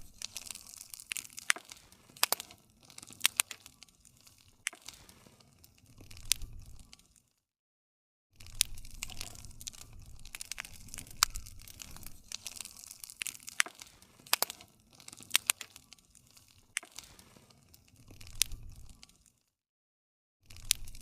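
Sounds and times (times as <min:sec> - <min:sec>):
campfire crackling and popping: 0:00.0 - 0:07.3, 0:08.4 - 0:19.4, 0:20.5 - 0:21.0.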